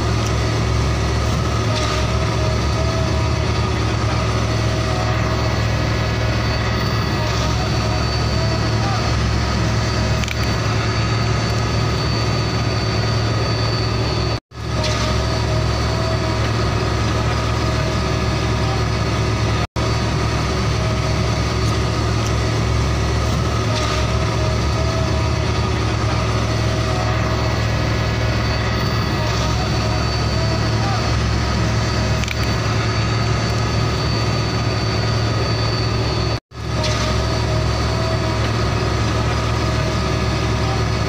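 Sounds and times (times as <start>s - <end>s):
engine idling with low hum: 0.0s - 41.0s.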